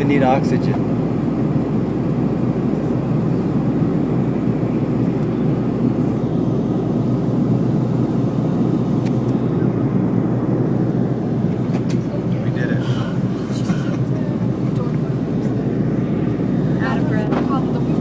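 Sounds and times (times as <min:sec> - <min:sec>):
airliner cabin engine drone: 0:00.0 - 0:18.0
constant low hum: 0:00.0 - 0:18.0.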